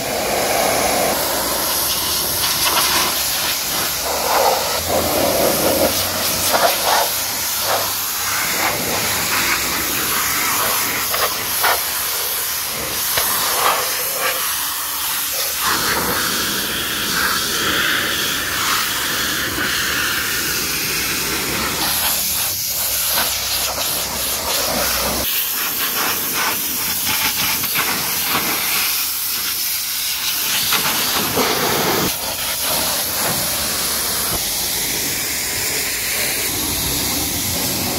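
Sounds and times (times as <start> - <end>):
pressure washer spraying hiss: 0.0 - 37.9.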